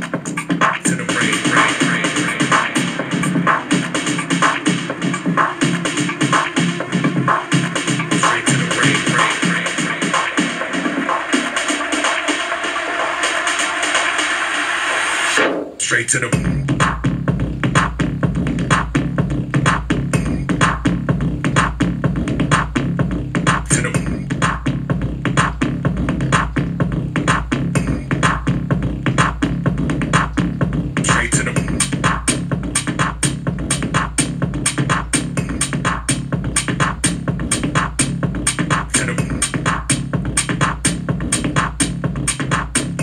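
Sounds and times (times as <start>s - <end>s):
electronic dance music: 0.0s - 43.0s.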